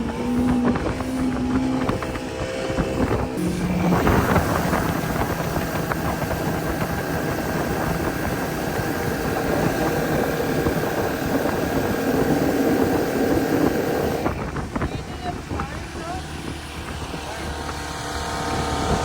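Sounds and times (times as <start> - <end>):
outboard motor running: 0.0 - 19.0
rush of wind and water: 0.0 - 19.0.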